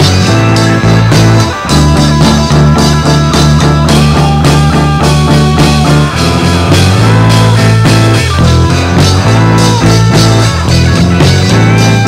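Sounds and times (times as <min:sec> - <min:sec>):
electric guitar bending notes: 0:00.0 - 0:12.0
steady drum beat: 0:00.0 - 0:12.0
sustained bass notes: 0:00.0 - 0:12.0.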